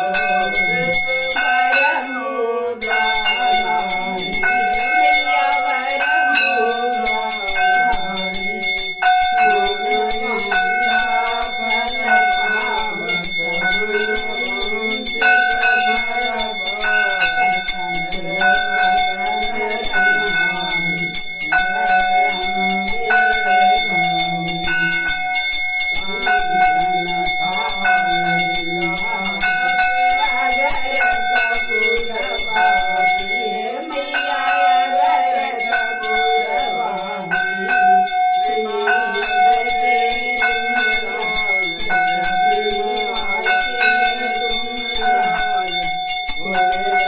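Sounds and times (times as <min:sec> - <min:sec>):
devotional song: 0:00.0 - 0:47.0
hand bell ringing: 0:00.0 - 0:47.0.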